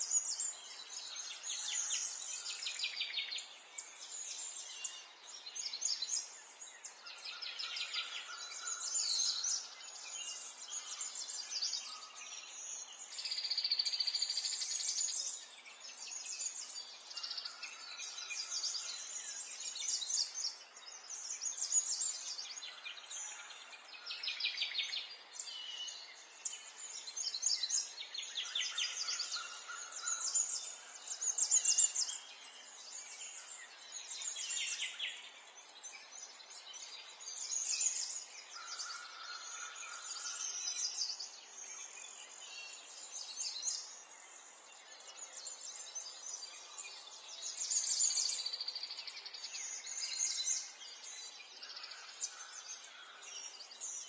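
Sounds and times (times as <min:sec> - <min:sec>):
birds chirping and trilling: 0:00.0 - 0:54.0
faint background hiss: 0:00.0 - 0:54.0.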